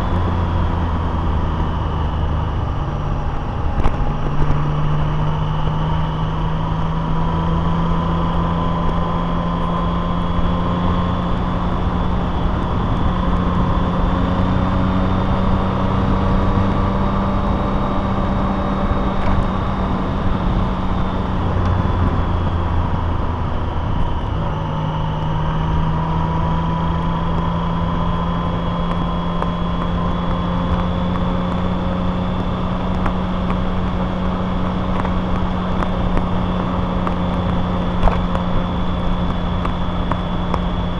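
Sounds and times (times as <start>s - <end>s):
road noise: 0.0s - 40.9s
vehicle engine running: 0.0s - 40.9s.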